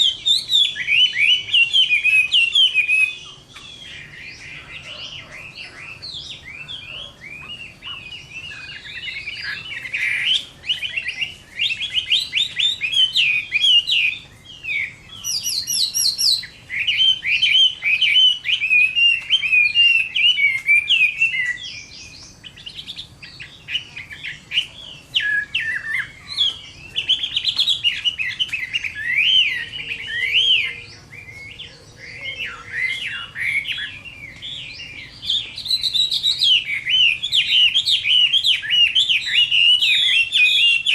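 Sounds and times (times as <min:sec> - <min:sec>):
bird singing whistled phrases: 0:00.0 - 0:40.9.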